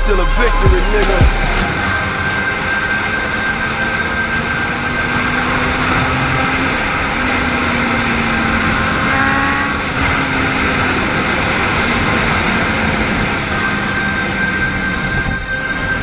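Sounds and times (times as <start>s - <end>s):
road and wind noise: 1.6s - 16.0s.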